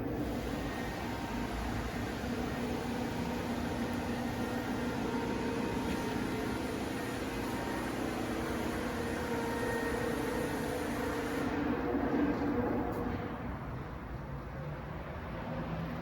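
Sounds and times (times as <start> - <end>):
mechanical hum: 0.0 - 15.4.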